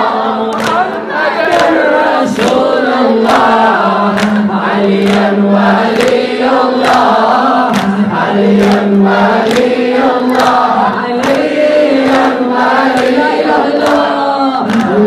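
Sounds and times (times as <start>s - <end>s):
men chanting over microphone: 0.0s - 15.0s
rhythmic chest beating slaps: 0.0s - 15.0s.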